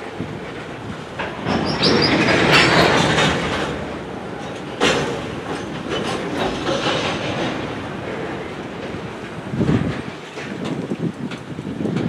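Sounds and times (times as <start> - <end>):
steel wheels rumbling on rail: 0.0 - 12.0
wheels knocking over rail joints: 0.3 - 12.0.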